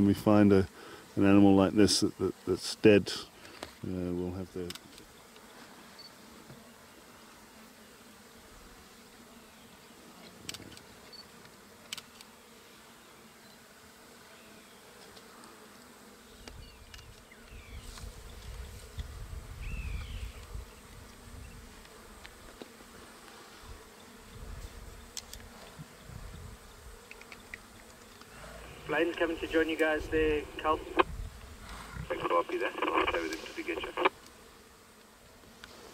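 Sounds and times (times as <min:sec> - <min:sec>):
flies buzzing: 0:00.3 - 0:35.9.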